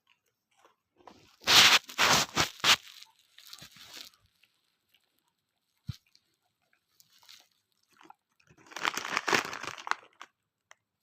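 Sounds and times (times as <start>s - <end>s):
biscuit crunching and chewing: 0.0s - 11.0s.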